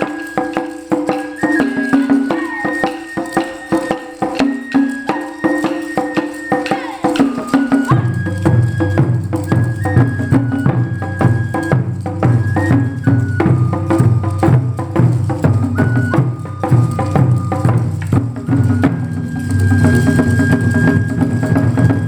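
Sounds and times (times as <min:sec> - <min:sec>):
high held melody: 0:00.0 - 0:22.0
wooden clappers clacking: 0:00.0 - 0:22.0.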